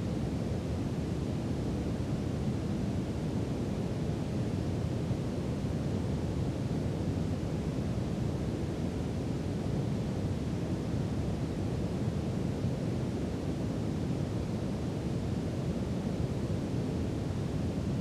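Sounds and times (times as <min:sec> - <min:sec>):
brown noise hiss: 0:00.0 - 0:18.0.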